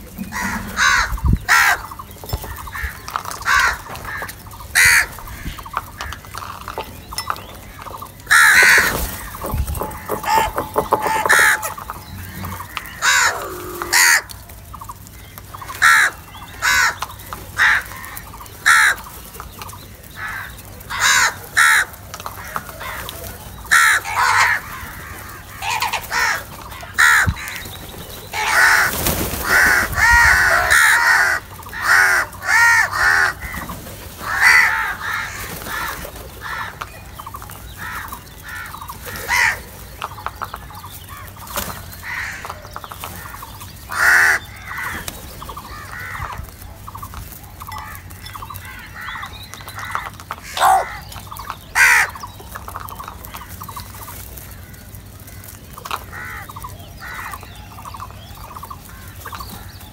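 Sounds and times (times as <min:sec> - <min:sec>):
crows cawing: 0:00.2 - 0:06.8, 0:07.8 - 0:14.5, 0:15.1 - 0:19.2, 0:20.1 - 0:27.7, 0:28.3 - 0:37.1, 0:37.7 - 0:40.5, 0:41.1 - 0:46.6, 0:47.6 - 0:58.0.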